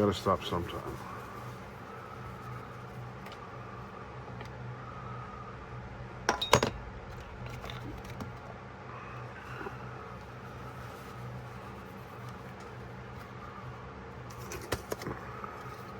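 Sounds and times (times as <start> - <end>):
steady background hum: 0.0 - 15.9.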